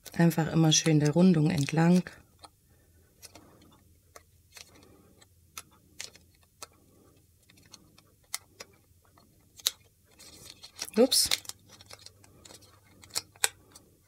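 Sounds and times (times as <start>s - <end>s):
stiff paper clicks and ticks: 0.0s - 2.5s, 3.2s - 13.8s.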